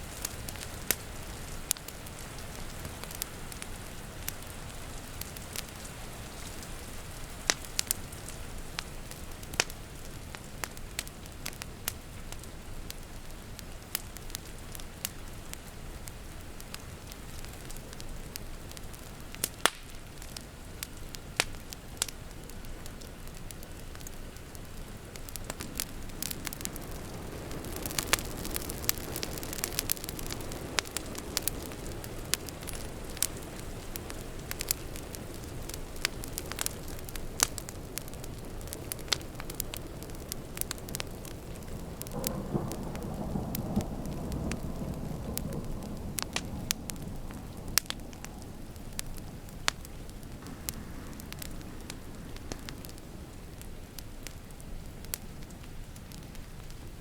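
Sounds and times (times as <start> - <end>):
rain hissing: 0.0 - 57.0
wood fire crackling and popping: 0.0 - 57.0.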